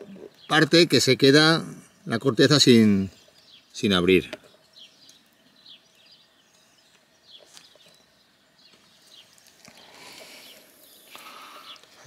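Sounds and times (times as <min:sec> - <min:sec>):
faint bird chirps: 0:01.8 - 0:12.0.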